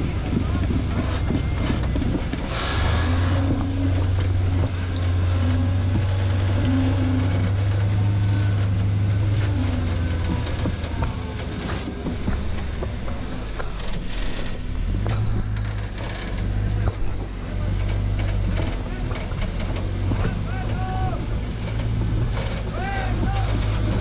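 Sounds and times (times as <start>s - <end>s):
engine working under load: 0.0s - 24.0s.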